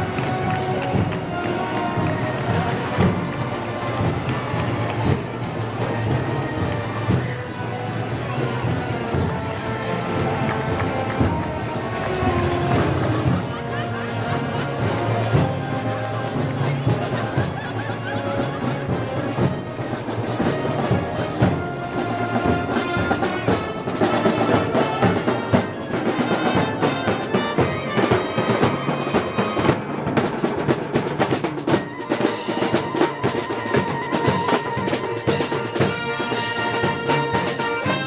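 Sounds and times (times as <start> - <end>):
steady drum beat: 0.0 - 38.0
wind band playing: 0.0 - 38.0.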